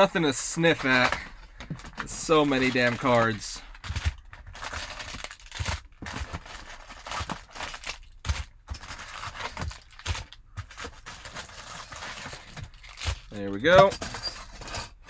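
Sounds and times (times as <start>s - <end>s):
foil wrappers crinkling: 0.6s - 14.7s.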